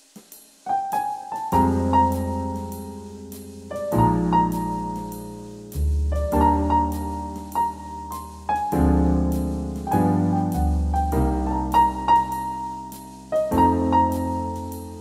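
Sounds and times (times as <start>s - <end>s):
slow piano music: 0.6s - 15.0s.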